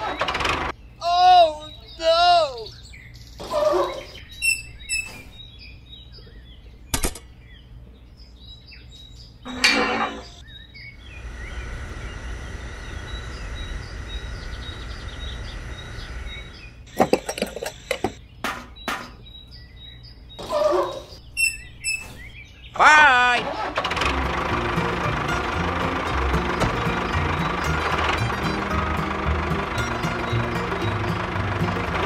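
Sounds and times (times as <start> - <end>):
birds chirping: 0.0 - 23.5, 24.1 - 32.0.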